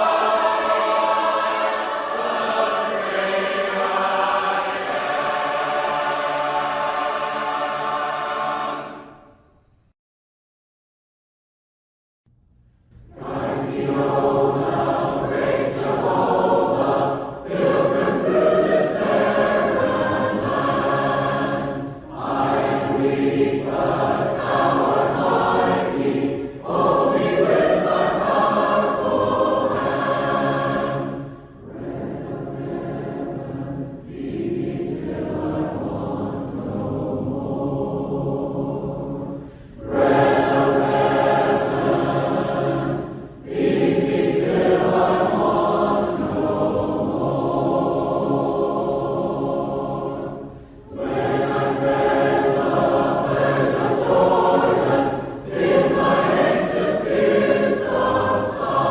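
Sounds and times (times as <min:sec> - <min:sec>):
congregation singing a hymn: 0:00.0 - 0:09.4, 0:13.0 - 0:58.9.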